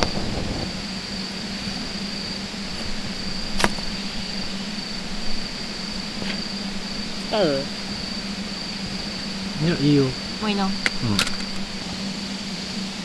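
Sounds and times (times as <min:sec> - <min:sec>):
insects trilling: 0:00.0 - 0:13.0
low hum: 0:00.0 - 0:13.0.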